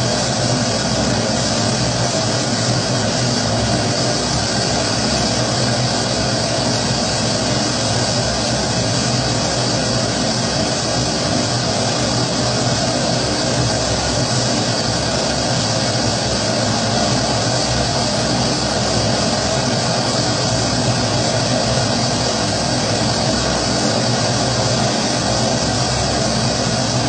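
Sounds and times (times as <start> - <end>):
stove burner hissing: 0.0 - 27.0.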